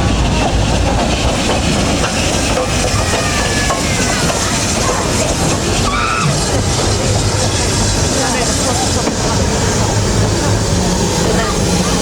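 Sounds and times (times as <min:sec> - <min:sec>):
train running past: 0:00.0 - 0:12.0.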